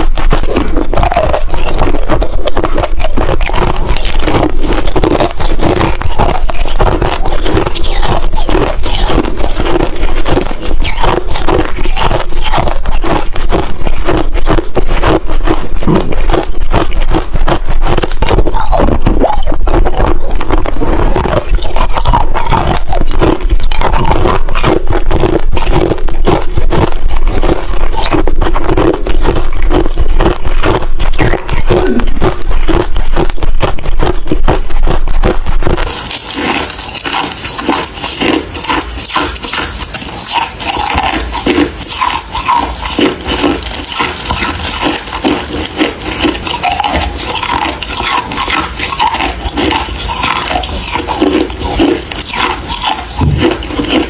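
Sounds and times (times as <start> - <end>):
ice crunching being chewed: 0.0 - 54.0.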